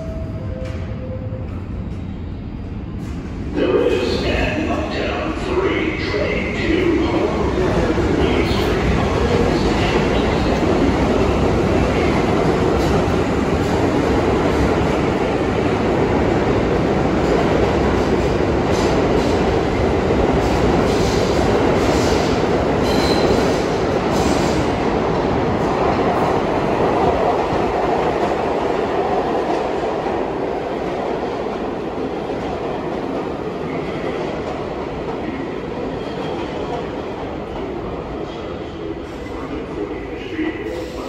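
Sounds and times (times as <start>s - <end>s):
subway train rumbling: 0.0s - 41.0s.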